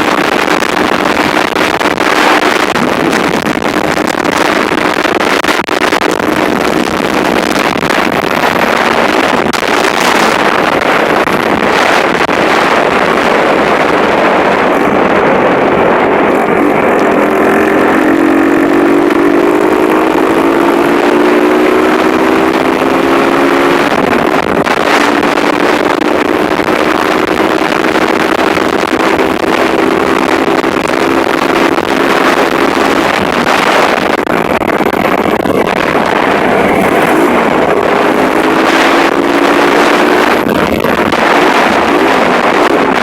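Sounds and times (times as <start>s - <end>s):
motorcycle engine accelerating: 0.0s - 43.0s
wind rush on microphone: 0.0s - 43.0s.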